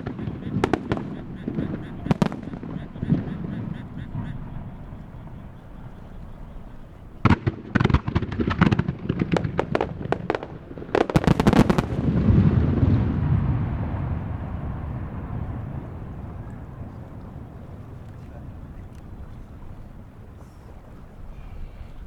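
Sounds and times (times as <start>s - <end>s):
low rolling rumble: 0.0s - 22.0s.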